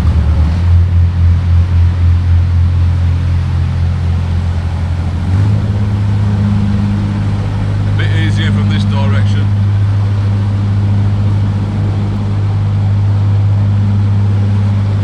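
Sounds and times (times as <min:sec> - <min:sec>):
diesel boat engine throbbing: 0:00.0 - 0:12.2.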